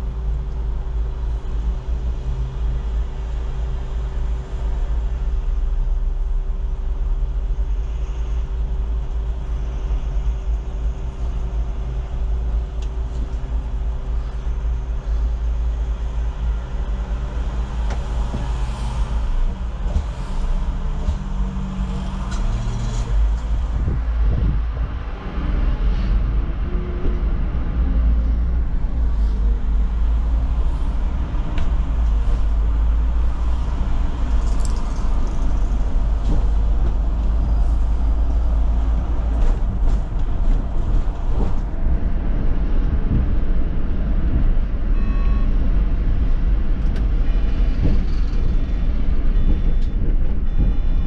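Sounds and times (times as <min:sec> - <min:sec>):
bus engine and road rumble: 0:00.0 - 0:51.0
constant hum: 0:00.0 - 0:51.0.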